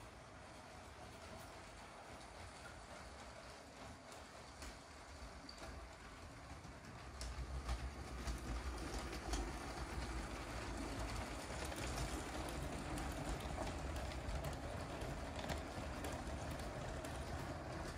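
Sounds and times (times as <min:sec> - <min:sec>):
toy train rumbling on plastic track: 0:00.0 - 0:17.9
wheels clicking over rail joints: 0:00.0 - 0:17.9.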